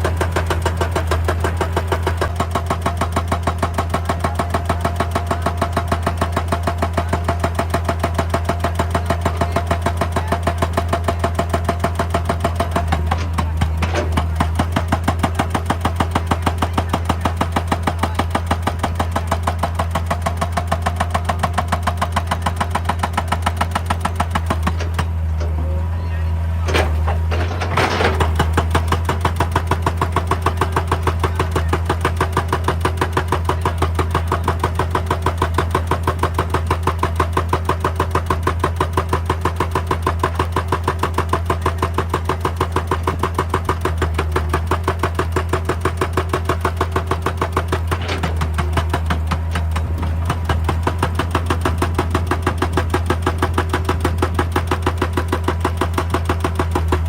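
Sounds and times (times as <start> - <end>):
diesel engine drone: 0.0 - 57.0
hydraulic breaker hammering rock: 0.0 - 57.0.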